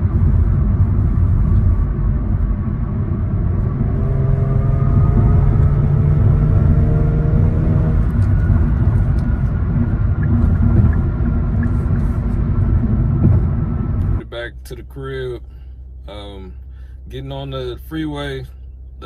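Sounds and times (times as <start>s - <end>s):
car engine accelerating: 0.0s - 19.0s
constant low rumble: 0.0s - 19.0s.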